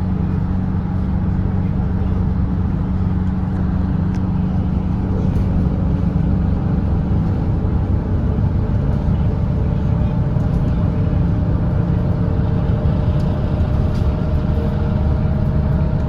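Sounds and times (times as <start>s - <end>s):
diesel bus engine droning: 0.0s - 16.0s
road noise: 0.0s - 16.0s.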